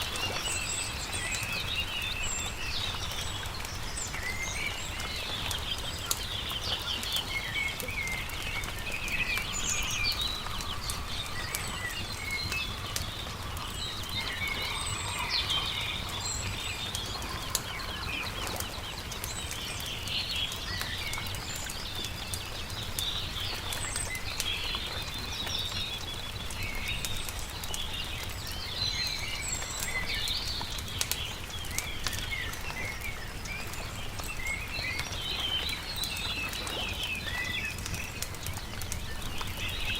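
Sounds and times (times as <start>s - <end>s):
campfire crackling: 0.0s - 39.9s
birds chirping and singing: 0.2s - 39.9s.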